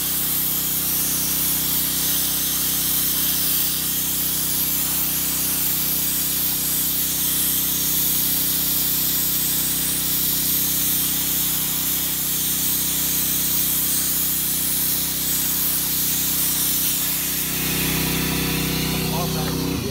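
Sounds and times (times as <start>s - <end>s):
abrasive blaster hissing: 0.0s - 19.9s.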